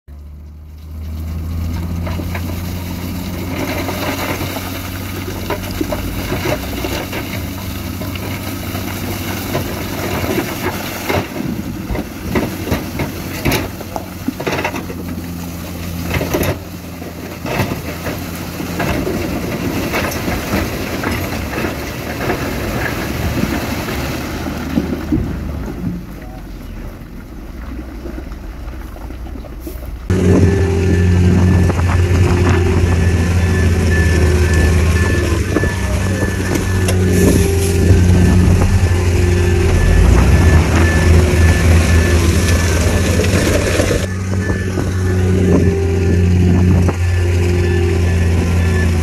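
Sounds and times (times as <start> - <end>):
heavy diesel machinery running: 0.1 - 49.0.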